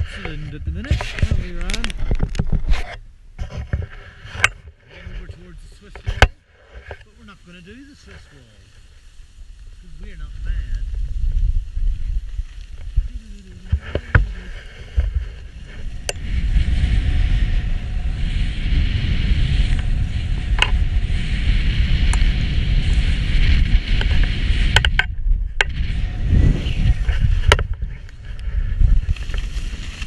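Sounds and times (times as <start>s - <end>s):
skis scraping over snow: 0.0s - 2.0s, 2.7s - 24.8s, 25.7s - 30.0s
wind on microphone: 0.0s - 30.0s.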